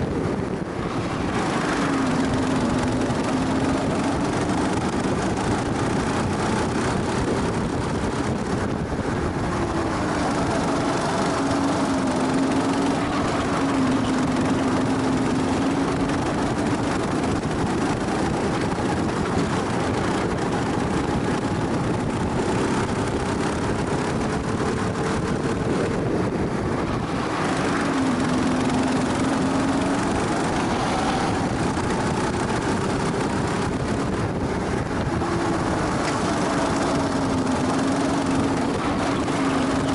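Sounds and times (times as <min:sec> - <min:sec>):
go-kart engine revving: 0:00.0 - 0:39.9
wind and road noise: 0:00.0 - 0:39.9.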